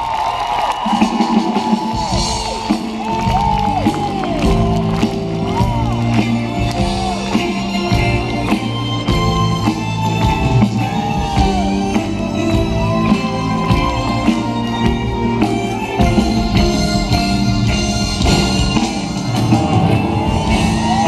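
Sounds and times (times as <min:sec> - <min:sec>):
live band playing: 0:00.0 - 0:21.0
steady drum beat: 0:00.8 - 0:21.0.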